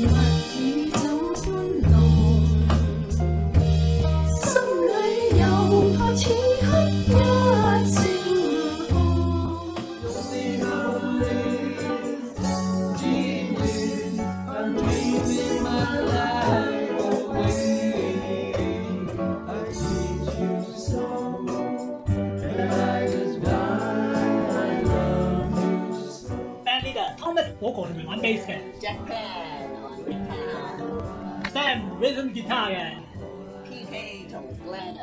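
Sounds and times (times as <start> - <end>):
band playing pop song: 0.0 - 35.0.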